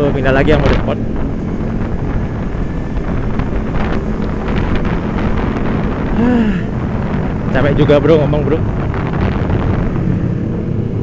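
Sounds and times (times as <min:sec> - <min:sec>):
wind buffeting microphone: 0:00.0 - 0:11.0
motorcycle engine running: 0:00.4 - 0:11.0.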